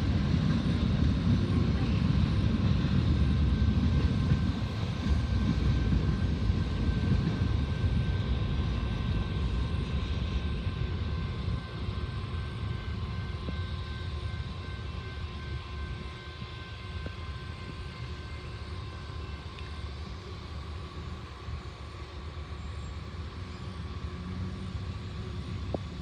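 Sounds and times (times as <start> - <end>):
faint steady whine: 0.0 - 26.0
train rumbling: 0.0 - 26.0.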